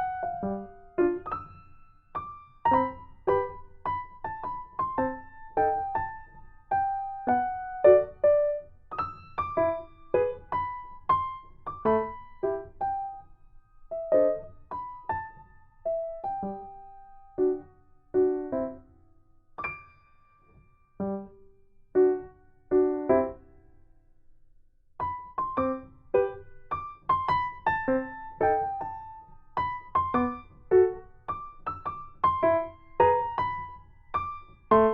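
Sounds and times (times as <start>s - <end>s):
gentle piano melody: 0.0s - 23.9s, 25.0s - 34.9s.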